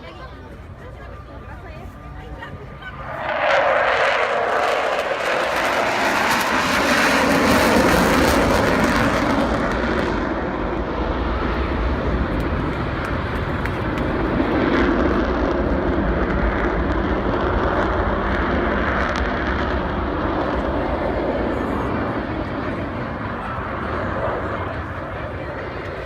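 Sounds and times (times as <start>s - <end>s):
jet engines in flight: 0.0s - 26.0s.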